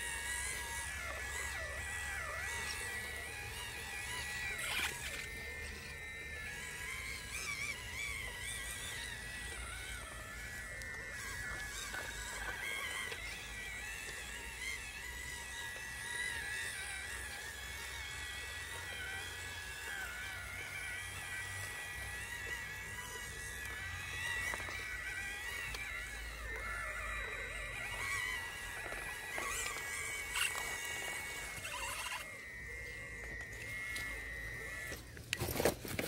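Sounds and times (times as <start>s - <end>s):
small electric motor whining: 0.0s - 36.0s.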